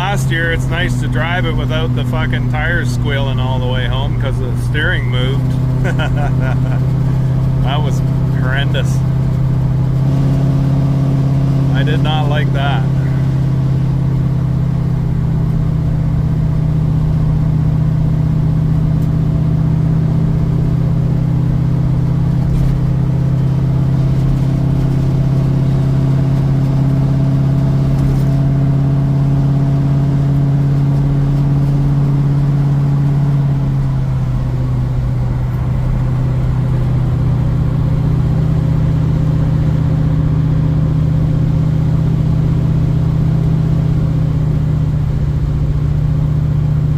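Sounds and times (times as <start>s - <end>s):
car engine droning: 0.0s - 46.9s.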